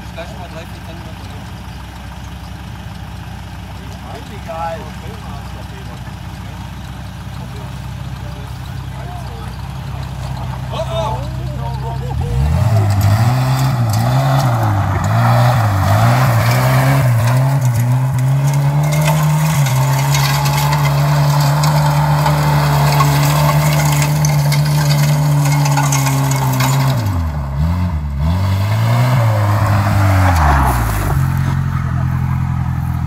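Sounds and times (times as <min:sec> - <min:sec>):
car engine revving: 0:00.0 - 0:33.0
gravel hissing from tyres: 0:00.1 - 0:33.0.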